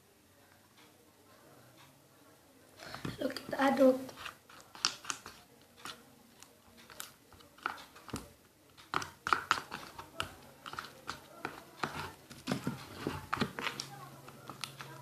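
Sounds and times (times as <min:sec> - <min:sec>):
spoon stirring sticky slime: 0:02.8 - 0:15.0.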